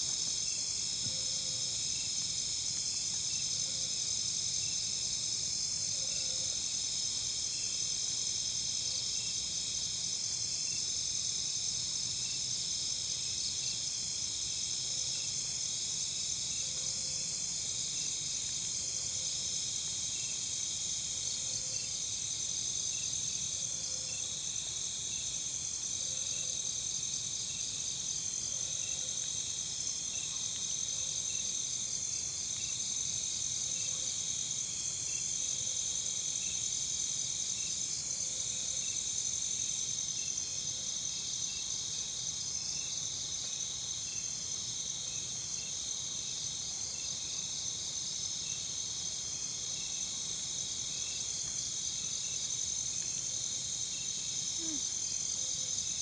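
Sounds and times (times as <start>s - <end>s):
cricket chirps: 0.0s - 56.0s
insects trilling: 0.0s - 56.0s.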